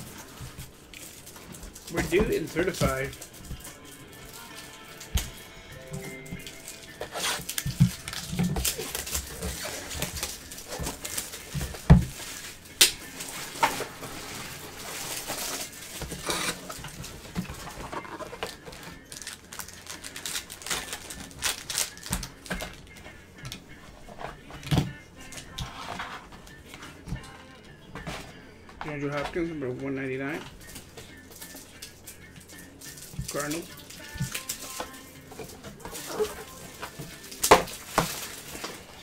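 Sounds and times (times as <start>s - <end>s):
card packs rustling and tapping: 0.0s - 27.3s, 32.8s - 39.0s.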